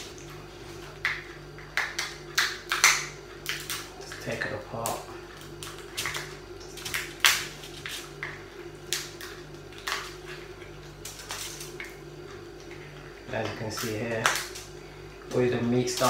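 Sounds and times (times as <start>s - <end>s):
lobster shell cracking: 1.0s - 12.4s, 13.7s - 16.0s.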